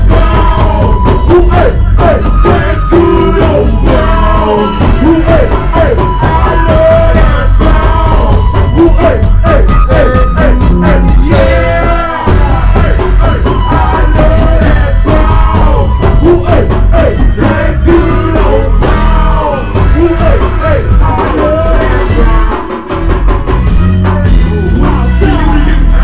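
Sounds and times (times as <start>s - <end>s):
heavy bass and drums: 0.0s - 26.0s
lead vocal singing: 0.0s - 26.0s
live band playing: 0.0s - 26.0s.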